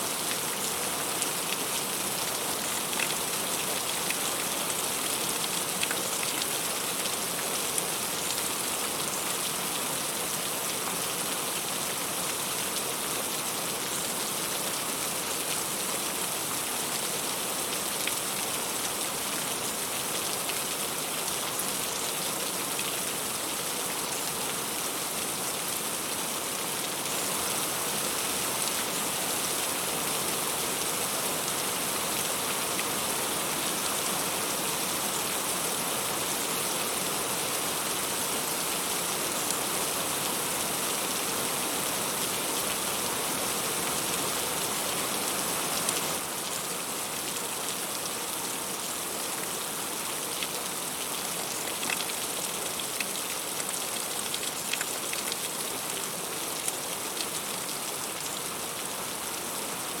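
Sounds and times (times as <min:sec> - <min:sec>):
heavy rain on leaves: 0:00.0 - 1:00.0.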